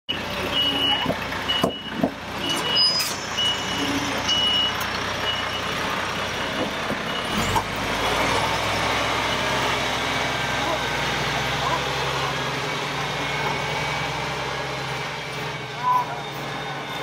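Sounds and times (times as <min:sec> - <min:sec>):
diesel engine running: 0:00.1 - 0:17.0
truck reversing beeps: 0:00.1 - 0:17.0.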